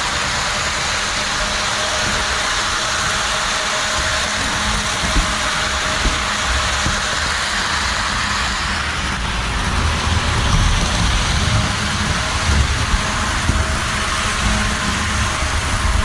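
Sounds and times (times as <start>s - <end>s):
model steam locomotive running: 0.0s - 16.0s.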